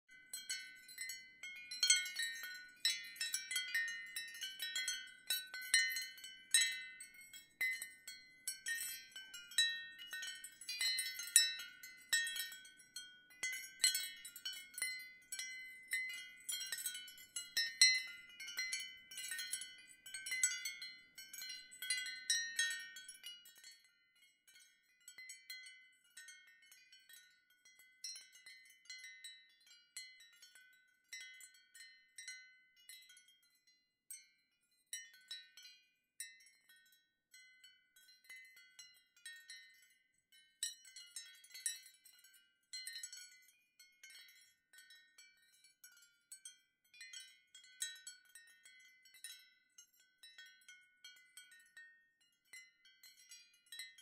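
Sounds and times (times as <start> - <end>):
ceramic wind chimes clinking: 0.1 - 54.0.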